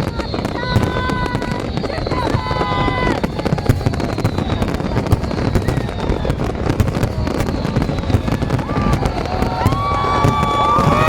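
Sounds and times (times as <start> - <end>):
fireworks crackling and popping: 0.0 - 11.0
low rumble of firework bursts: 0.0 - 11.0.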